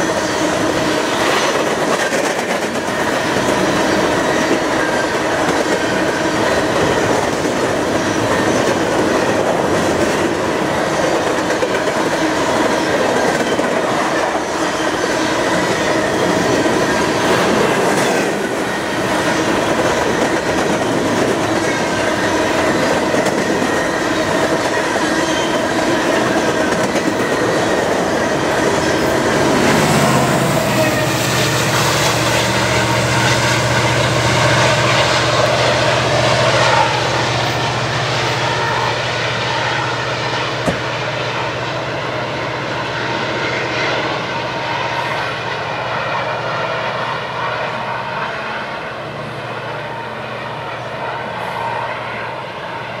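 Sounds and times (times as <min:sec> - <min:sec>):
freight train rolling on track: 0:00.0 - 0:53.0
locomotive engine drone: 0:02.7 - 0:53.0.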